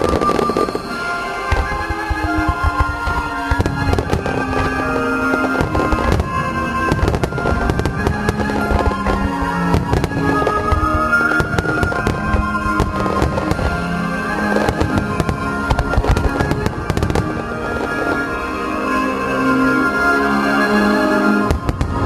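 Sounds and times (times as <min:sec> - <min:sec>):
fireworks bursting: 0:00.0 - 0:22.0
music playing: 0:00.0 - 0:22.0.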